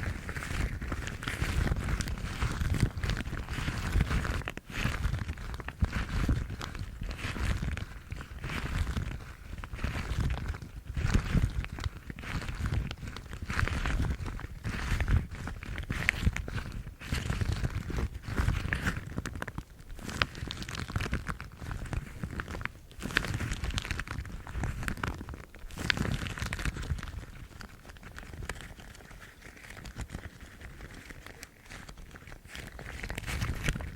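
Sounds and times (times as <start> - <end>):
rubber gloves rubbing and scratching: 0.0 - 33.9.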